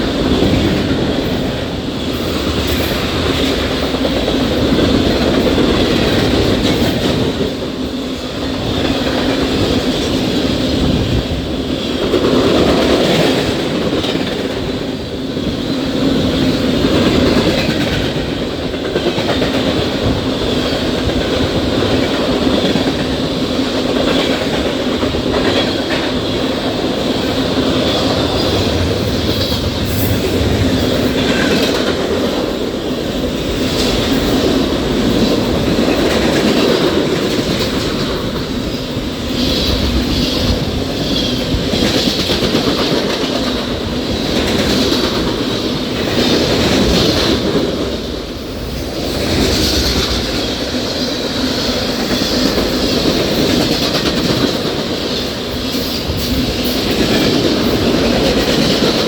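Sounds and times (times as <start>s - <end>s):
train cars rolling past: 0.0s - 59.0s.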